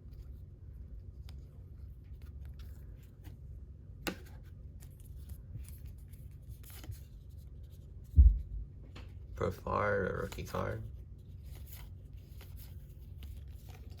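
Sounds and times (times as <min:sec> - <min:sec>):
cards rustling and clicking: 0:00.0 - 0:08.2, 0:08.8 - 0:14.0
low room hum: 0:00.0 - 0:14.0.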